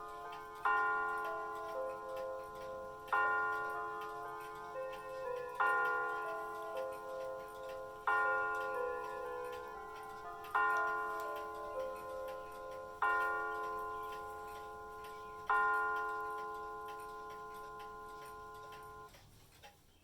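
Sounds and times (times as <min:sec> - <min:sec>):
clock chime strikes: 0:00.0 - 0:19.1
faint clock ticking: 0:00.0 - 0:20.0.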